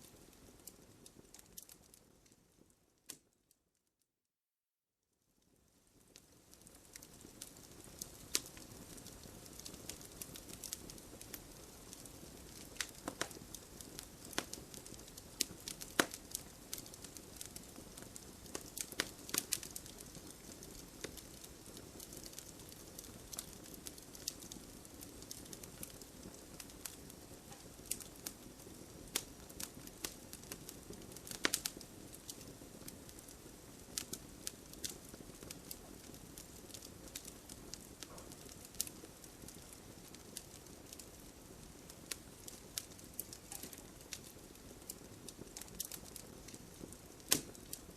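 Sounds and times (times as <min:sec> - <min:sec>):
wood crackling and popping: 0:00.0 - 0:03.3, 0:05.5 - 0:47.9
campfire hissing: 0:06.0 - 0:47.9.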